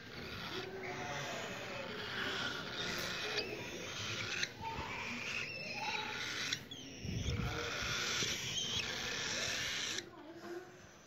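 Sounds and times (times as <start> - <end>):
cockatiel chicks raspy hissing calls: 0.0 - 11.0.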